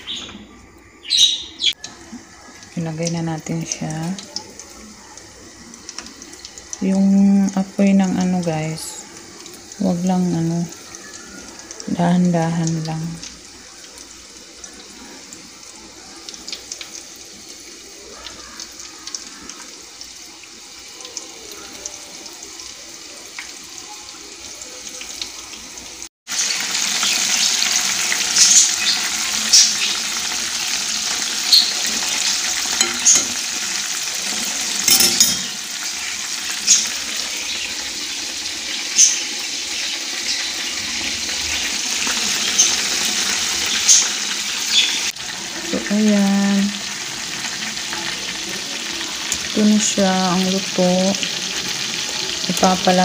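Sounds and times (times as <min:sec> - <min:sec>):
chicken deep-frying in oil: 0:00.0 - 0:53.0
oil popping and crackling: 0:01.7 - 0:53.0.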